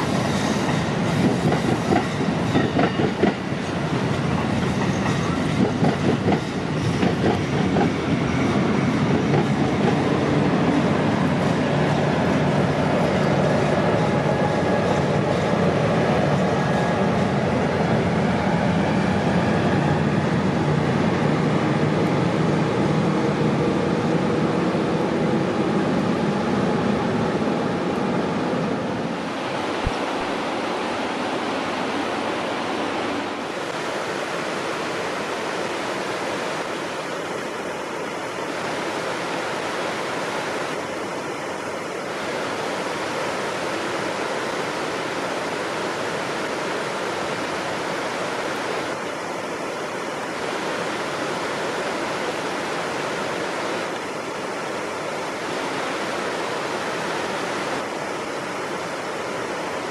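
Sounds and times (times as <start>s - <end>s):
flooded creek water rushing: 0.0s - 59.9s.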